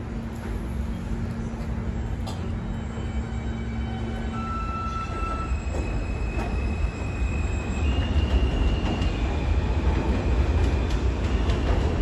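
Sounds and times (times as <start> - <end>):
elevated train rumbling: 0.0 - 12.0.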